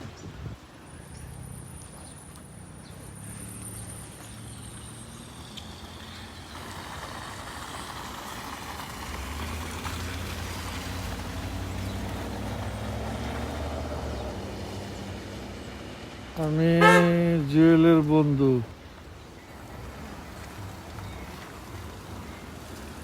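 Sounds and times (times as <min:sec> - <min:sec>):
traffic hiss: 0:00.0 - 0:23.0
vehicle engine humming: 0:00.0 - 0:23.0.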